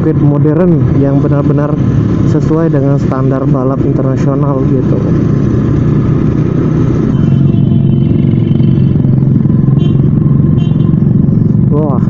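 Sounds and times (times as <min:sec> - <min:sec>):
motorcycle engine riding along: 0:00.0 - 0:12.0.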